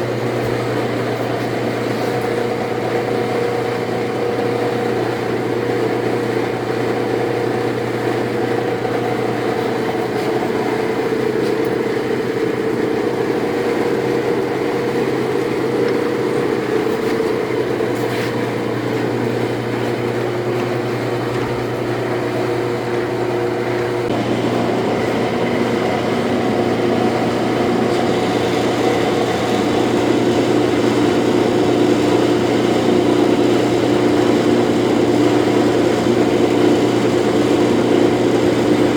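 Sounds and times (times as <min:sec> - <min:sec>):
lathe humming and whining: 0:00.0 - 0:38.9.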